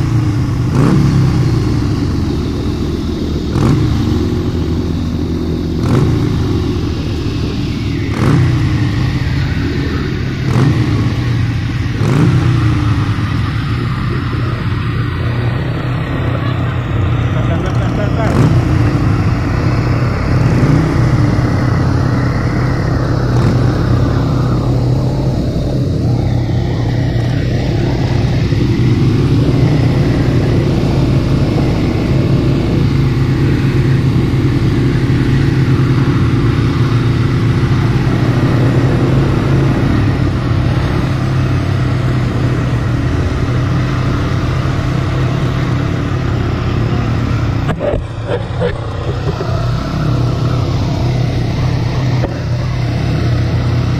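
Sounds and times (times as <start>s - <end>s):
quad bike engine running: 0.0s - 53.9s.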